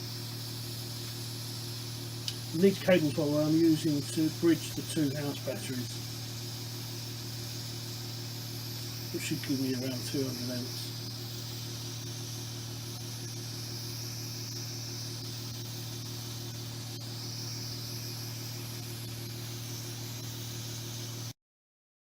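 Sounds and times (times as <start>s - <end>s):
electrical hum with hiss: 0.0s - 21.4s.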